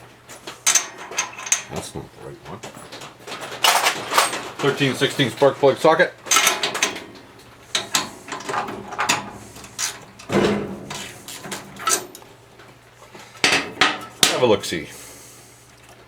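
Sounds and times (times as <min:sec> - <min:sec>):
hand tools clicking and clunking: 0:00.2 - 0:14.6.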